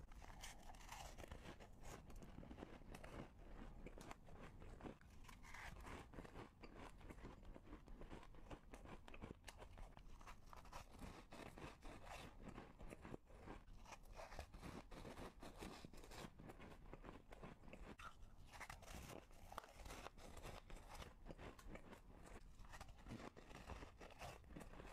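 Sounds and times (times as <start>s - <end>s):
ice pieces crunching as chewed: 0.1s - 24.9s.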